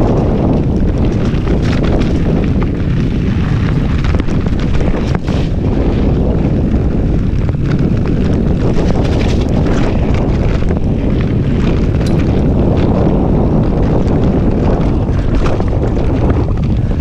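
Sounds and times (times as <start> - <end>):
bike clicks and rattles: 0.0 - 17.0
wind rushing over microphone: 0.0 - 17.0.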